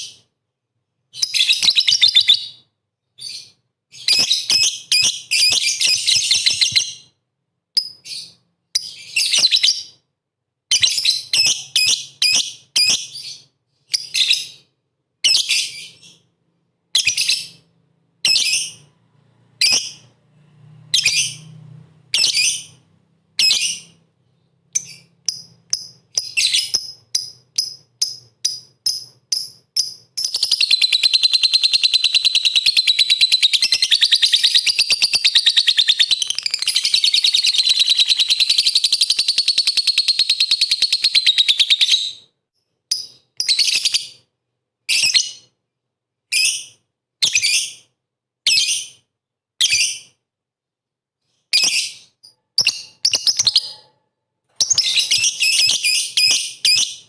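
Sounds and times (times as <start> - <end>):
lovebird chirping and trilling: 1.1 - 7.2, 7.8 - 10.0, 10.7 - 16.3, 16.9 - 18.9, 19.6 - 20.2, 20.9 - 42.3, 42.9 - 44.3, 44.9 - 45.5, 46.3 - 47.9, 48.5 - 49.0, 49.6 - 50.2, 51.5 - 53.9, 54.6 - 57.0.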